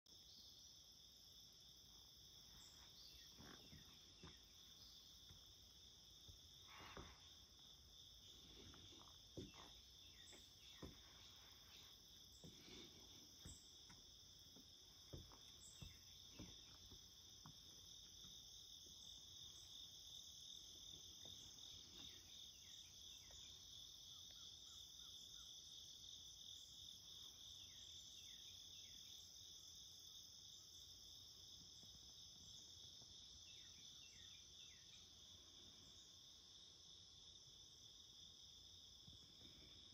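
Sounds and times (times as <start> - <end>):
insects trilling: 0.1 - 39.9.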